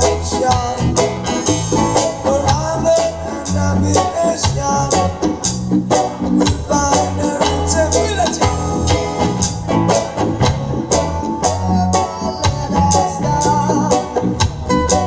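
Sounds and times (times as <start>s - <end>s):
deep bass line: 0.0s - 15.0s
drum beat: 0.0s - 15.0s
keyboard: 0.0s - 15.0s
strummed guitar: 0.0s - 15.0s.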